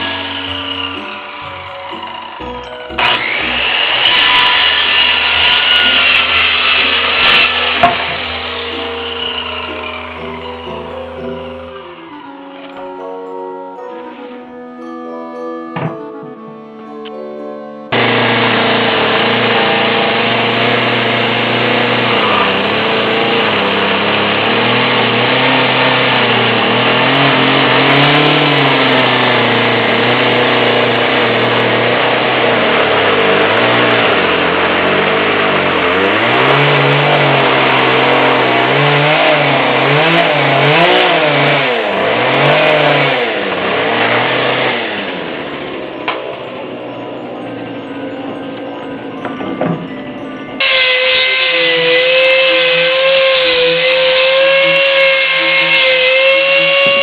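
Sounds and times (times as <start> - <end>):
chainsaw cutting wood: 0.0 - 12.9, 17.9 - 46.6, 50.6 - 57.0.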